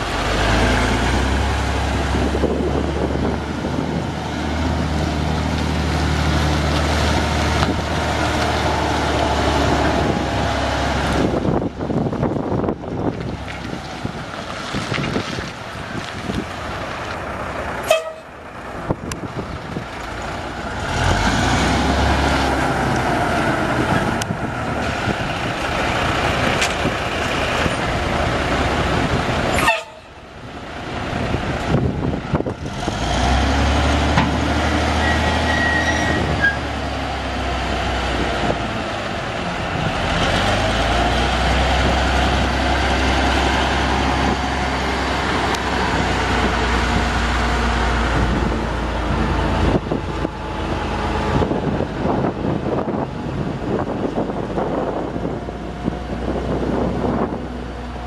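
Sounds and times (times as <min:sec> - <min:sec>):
diesel truck engine rumbling: 0:00.0 - 0:58.0.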